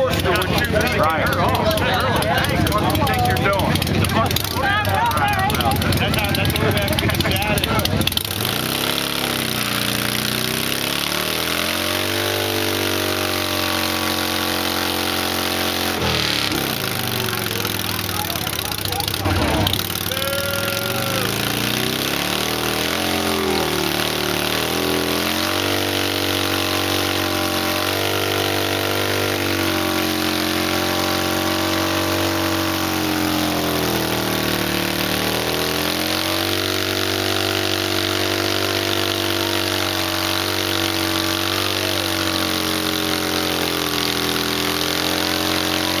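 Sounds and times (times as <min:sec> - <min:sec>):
motorcycle engine revving high: 0:00.0 - 0:46.0.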